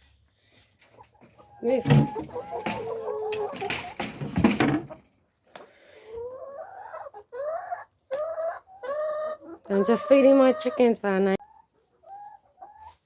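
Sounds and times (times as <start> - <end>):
hens scuffling: 0.0 - 13.0
hens calling: 0.9 - 13.0.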